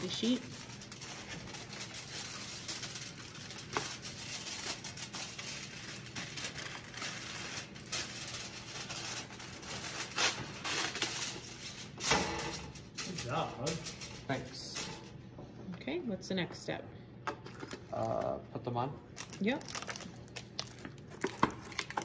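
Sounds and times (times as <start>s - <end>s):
aluminum foil crinkling: 0.0s - 15.2s, 19.1s - 22.0s.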